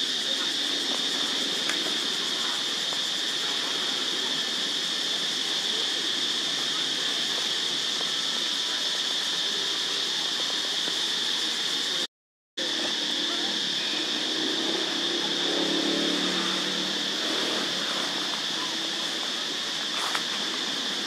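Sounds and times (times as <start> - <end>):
high-pitched insect drone: 0.0 - 21.0
outdoor hiss: 0.0 - 21.0.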